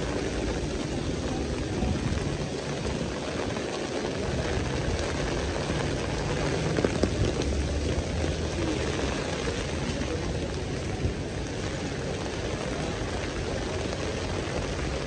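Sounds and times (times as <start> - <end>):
heavy rain splashing on street: 0.0 - 15.0.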